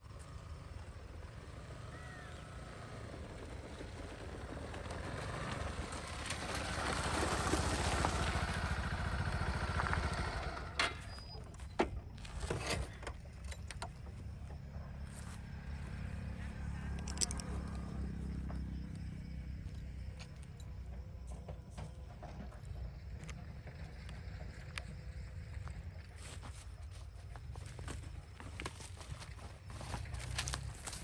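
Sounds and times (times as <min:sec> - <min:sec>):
motor vehicle passing: 0:00.1 - 0:11.0, 0:12.1 - 0:26.3, 0:29.6 - 0:31.0.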